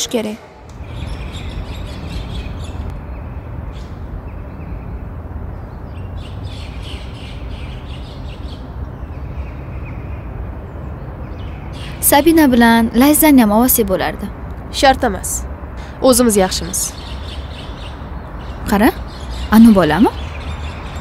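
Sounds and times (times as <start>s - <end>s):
small birds chirping: 0.7s - 14.2s, 14.8s - 21.0s.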